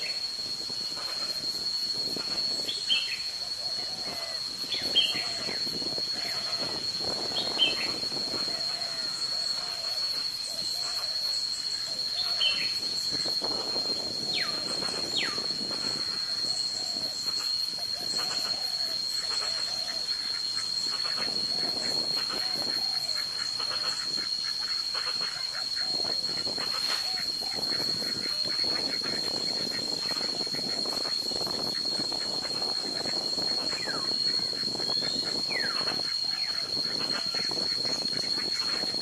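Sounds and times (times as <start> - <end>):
steady high-pitched whine: 0.0 - 39.0.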